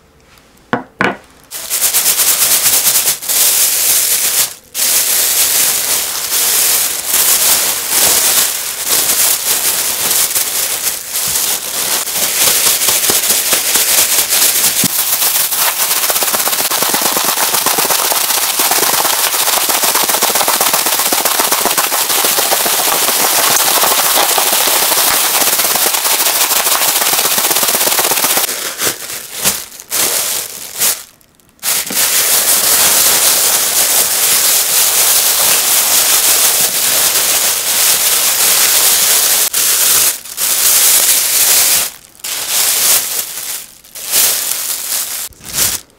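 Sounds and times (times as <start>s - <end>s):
plastic bag crinkling: 1.2s - 45.9s.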